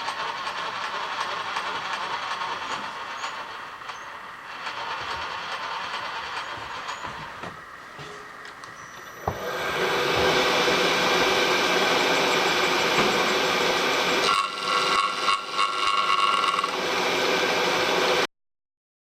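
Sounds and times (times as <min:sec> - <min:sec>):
power tool running: 0:00.0 - 0:07.6, 0:09.0 - 0:18.3.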